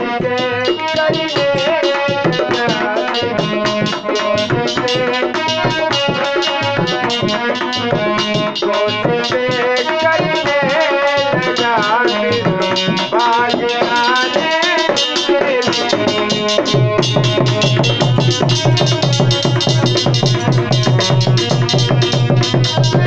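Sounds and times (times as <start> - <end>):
devotional song melody: 0.0 - 23.0
hand drum rhythm: 0.0 - 23.0
heavy dense drum beat: 0.0 - 23.0.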